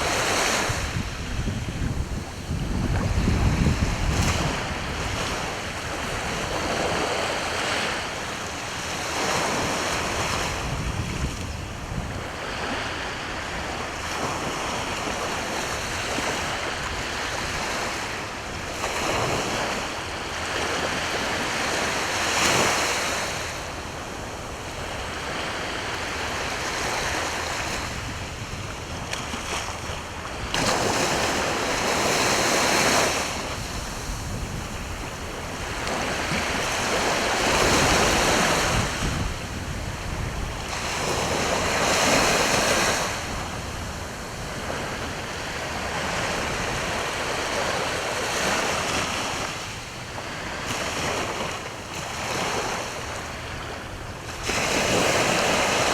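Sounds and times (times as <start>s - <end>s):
sea waves washing onto shore: 0.0s - 55.9s.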